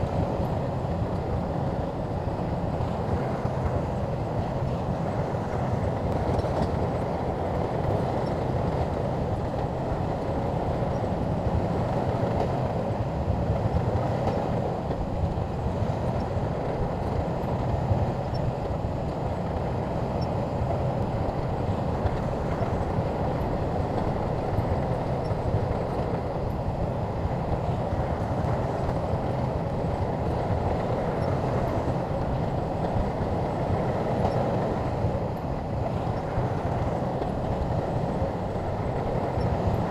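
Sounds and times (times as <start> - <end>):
diesel engine under load: 0.0 - 39.9
steel tracks rumbling: 0.0 - 39.9.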